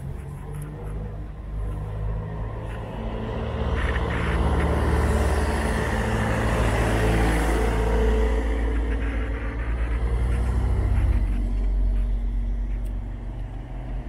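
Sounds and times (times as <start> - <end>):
vehicles driving past: 0.0 - 14.0.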